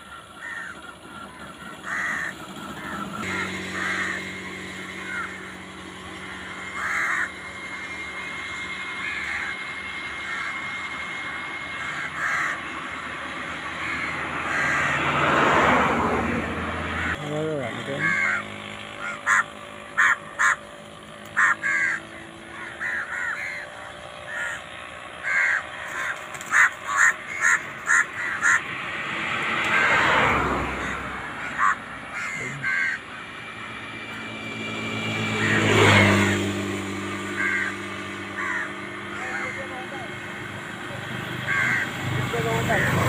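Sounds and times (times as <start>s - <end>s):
birds cawing: 0.0s - 43.0s.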